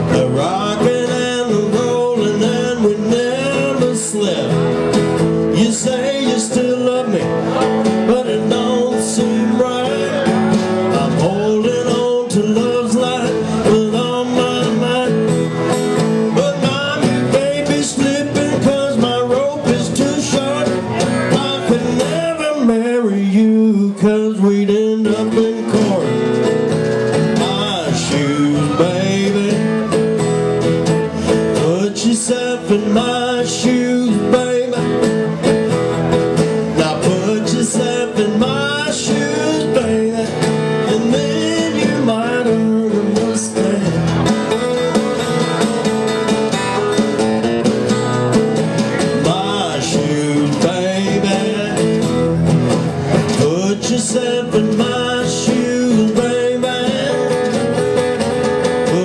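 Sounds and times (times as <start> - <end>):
country blues guitar: 0.0 - 59.0.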